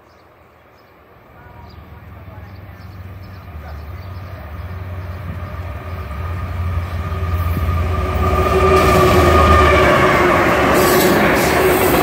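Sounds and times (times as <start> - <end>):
diesel locomotive engine rumble: 0.2 - 12.0.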